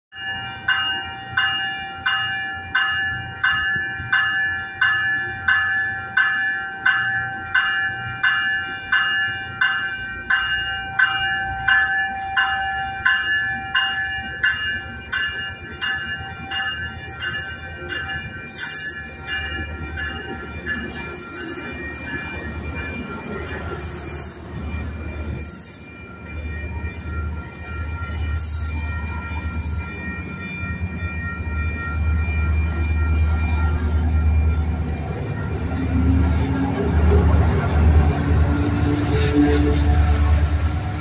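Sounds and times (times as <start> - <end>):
rolling train noise: 0.1 - 41.0
train warning bell ringing: 0.1 - 41.0.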